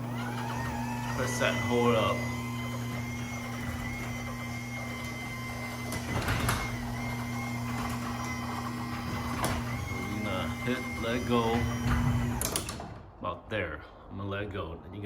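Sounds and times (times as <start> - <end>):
garage door opener motor whining: 0.0 - 13.2.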